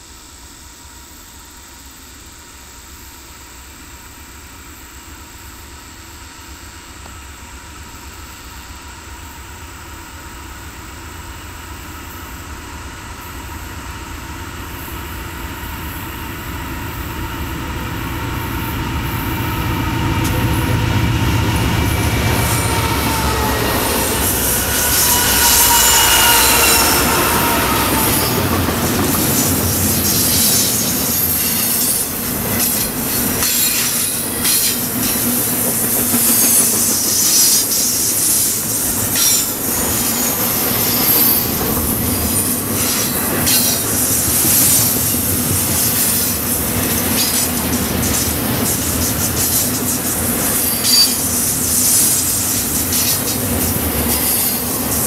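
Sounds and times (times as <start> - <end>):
diesel locomotive engine hum: 0.0 - 55.0
train wheels squealing: 8.0 - 55.0.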